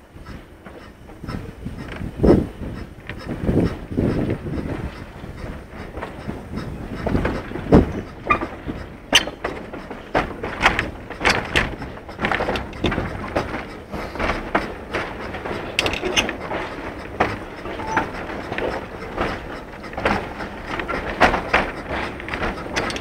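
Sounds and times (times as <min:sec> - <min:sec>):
steam locomotive working: 0:00.0 - 0:23.0
train wagons rattling and clanking: 0:00.0 - 0:23.0.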